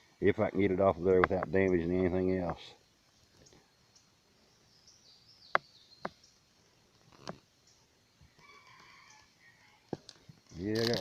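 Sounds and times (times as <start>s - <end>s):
distant bird calls: 0.0s - 11.0s.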